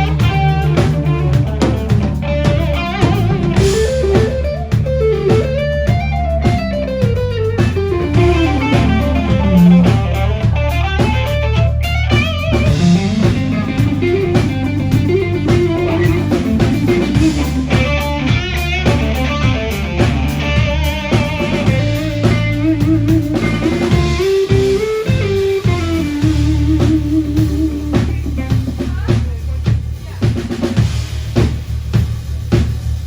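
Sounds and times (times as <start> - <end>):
electric guitar lead lines: 0.0 - 29.8
blues-rock band playing: 0.0 - 31.8.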